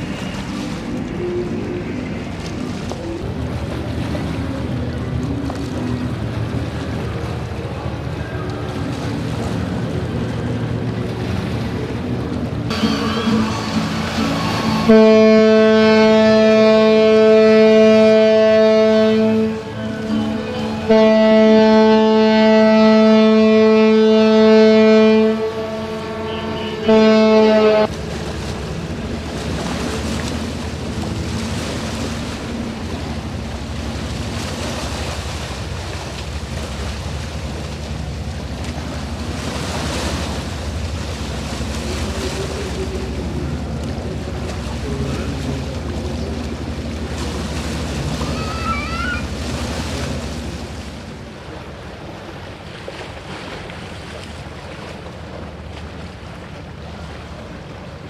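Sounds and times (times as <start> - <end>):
ship's horn blasts: 0.0 - 58.0
water washing: 0.0 - 58.0
wind: 0.0 - 58.0.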